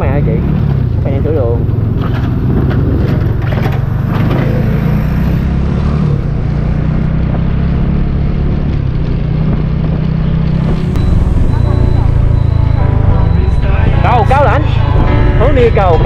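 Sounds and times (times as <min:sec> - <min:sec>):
motorcycle engine drone: 0:00.0 - 0:16.0
wind and road noise: 0:00.0 - 0:16.0.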